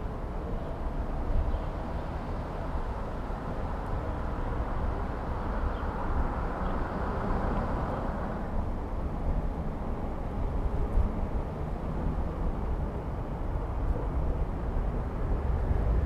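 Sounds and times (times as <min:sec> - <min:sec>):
street traffic: 0:00.0 - 0:16.0
wind rumble on microphone: 0:00.0 - 0:16.0.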